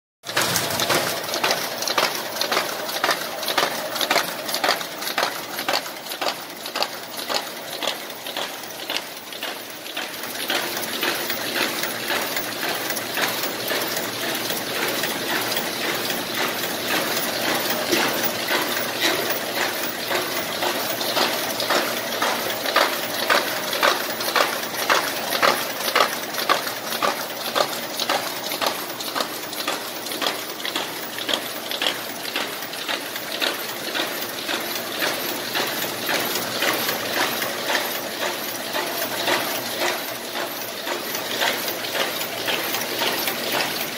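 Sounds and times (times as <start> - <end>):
louder machine clack: 0.2 - 43.9
machine rapid clicking and clacking: 0.2 - 43.9.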